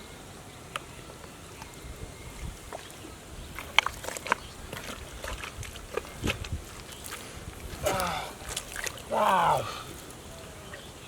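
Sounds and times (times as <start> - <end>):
splashing in muddy water: 1.5 - 11.0.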